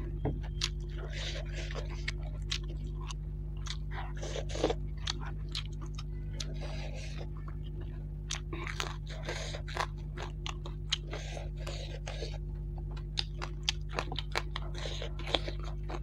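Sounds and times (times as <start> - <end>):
chewing and crunching food: 0.0 - 16.0
low electrical hum: 0.0 - 16.0.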